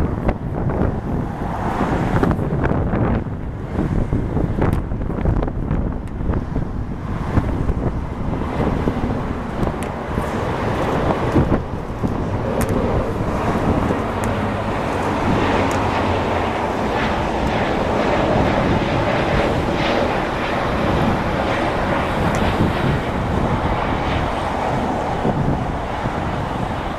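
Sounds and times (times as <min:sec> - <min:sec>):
jet engine roar: 0:00.0 - 0:26.9
wind buffeting microphone: 0:00.0 - 0:26.9.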